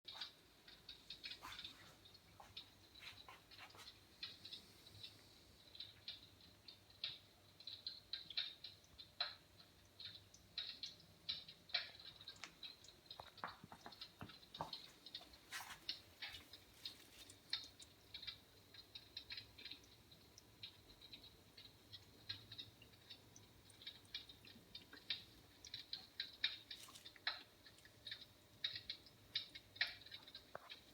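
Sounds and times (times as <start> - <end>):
fireplace crackling: 0.1 - 30.9.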